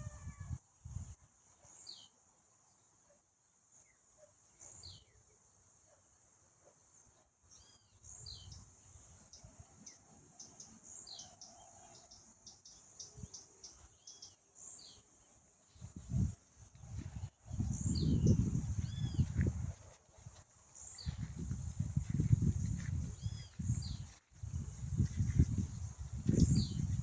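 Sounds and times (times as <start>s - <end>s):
insect chorus: 3.7s - 27.0s.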